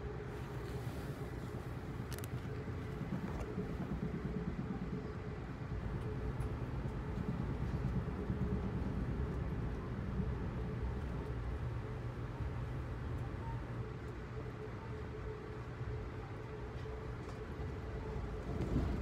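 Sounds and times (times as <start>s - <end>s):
constant hum: 0.0s - 19.0s
train ride rumble: 0.0s - 19.0s.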